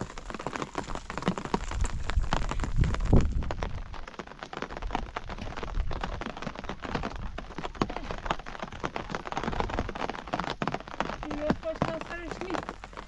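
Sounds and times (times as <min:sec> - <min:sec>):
rain drops ticking on a surface: 0:00.0 - 0:13.0.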